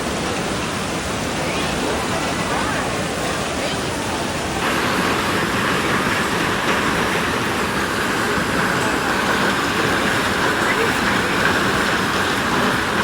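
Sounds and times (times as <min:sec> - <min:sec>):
heavy wind-driven rain: 0:00.0 - 0:13.0.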